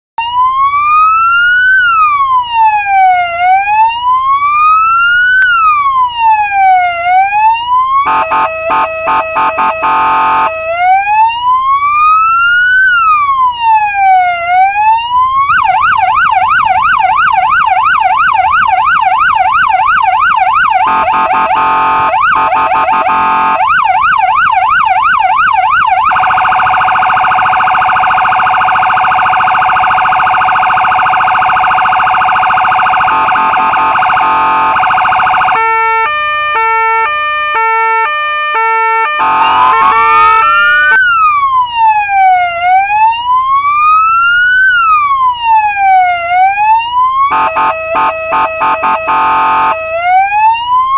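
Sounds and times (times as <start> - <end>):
police siren wailing and yelping: 0.2 - 50.9.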